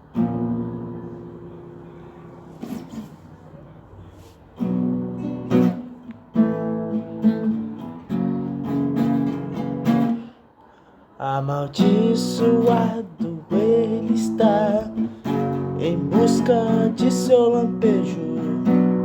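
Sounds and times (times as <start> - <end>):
acoustic guitar strumming: 0.0 - 3.2, 4.6 - 10.4, 11.2 - 19.0.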